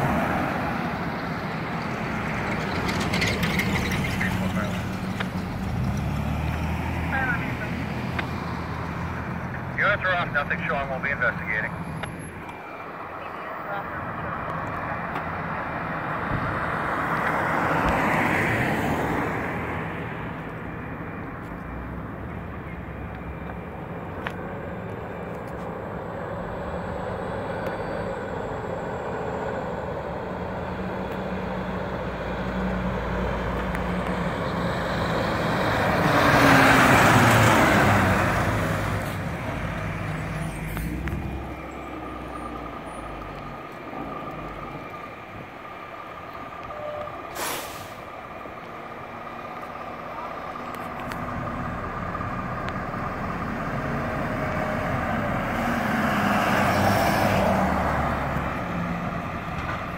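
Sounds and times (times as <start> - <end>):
ambulance passing: 0.0 - 59.9
fire engine driving past: 0.0 - 59.9.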